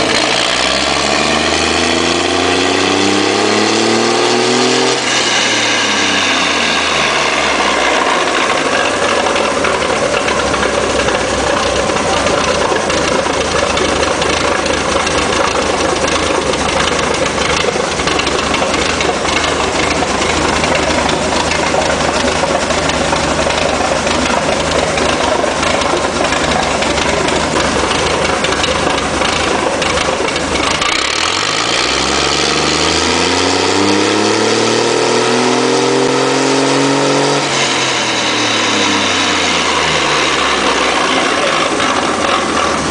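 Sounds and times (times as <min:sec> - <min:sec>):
truck engine idling and revving: 0:00.0 - 0:42.9.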